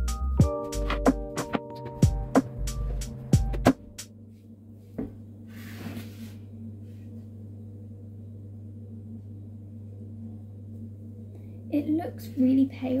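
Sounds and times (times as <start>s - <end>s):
low electrical hum: 1.9s - 13.0s.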